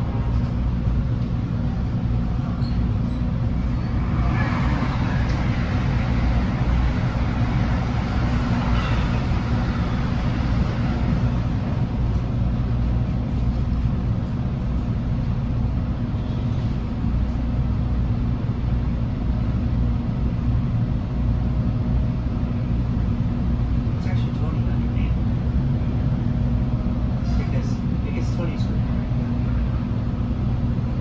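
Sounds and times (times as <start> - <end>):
train coach equipment hum: 0.0 - 31.0.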